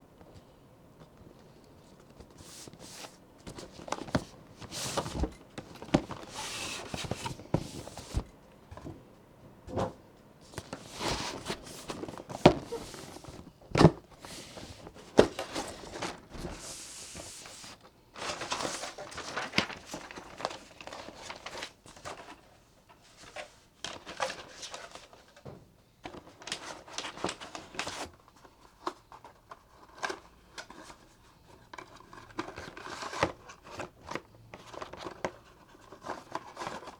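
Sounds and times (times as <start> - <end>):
keyboard and packaging being handled: 1.0 - 9.0, 9.7 - 25.4, 26.0 - 36.9.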